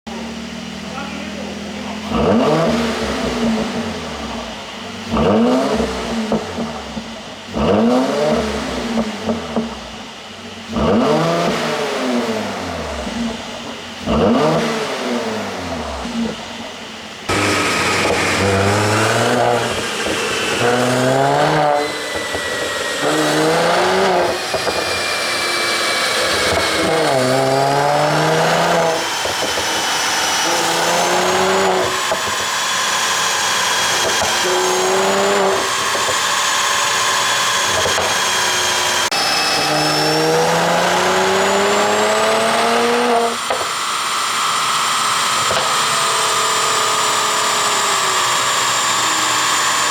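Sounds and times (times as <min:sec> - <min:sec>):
car engine revving: 0:00.2 - 0:49.9
car accelerating hard: 0:01.5 - 0:49.9.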